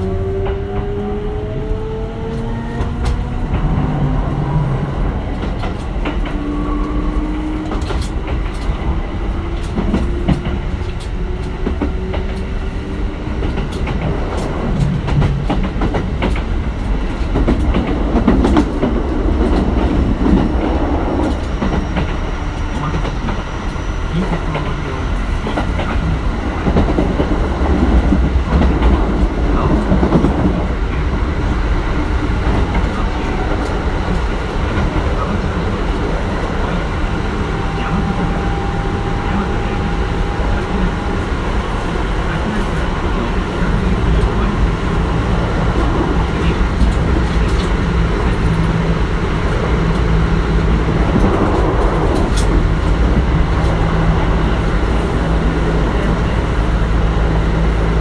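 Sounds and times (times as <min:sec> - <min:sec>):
rail joint clicks: 0:00.0 - 0:58.0
train wheels and motors rumbling: 0:00.0 - 0:58.0.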